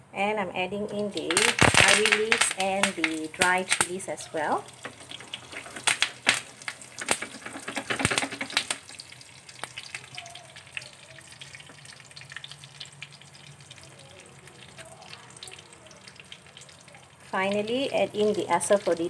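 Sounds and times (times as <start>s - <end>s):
spices sizzling in hot oil: 0.8s - 19.0s.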